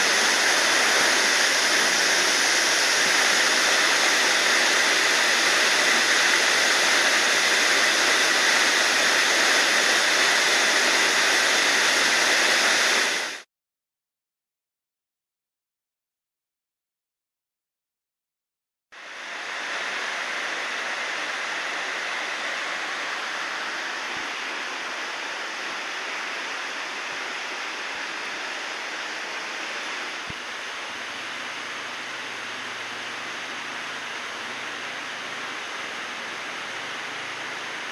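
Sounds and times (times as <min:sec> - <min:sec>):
waterfall rushing: 0:00.0 - 0:13.4, 0:19.0 - 0:37.9.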